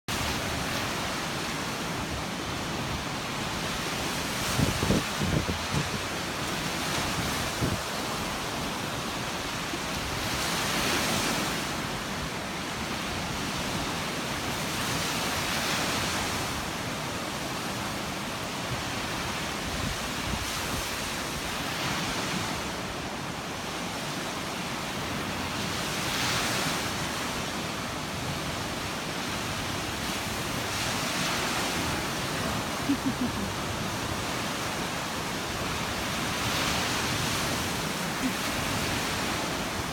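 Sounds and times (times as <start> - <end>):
surf waves rushing: 0.1 - 39.9.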